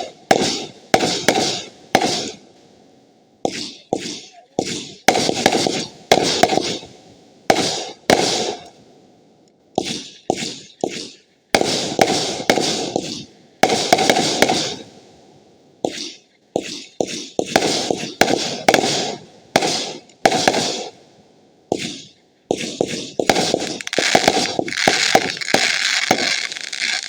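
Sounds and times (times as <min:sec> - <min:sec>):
fireworks banging and crackling: 0:00.0 - 0:02.6, 0:03.4 - 0:08.9, 0:09.7 - 0:15.1, 0:15.8 - 0:21.0, 0:21.7 - 0:27.0.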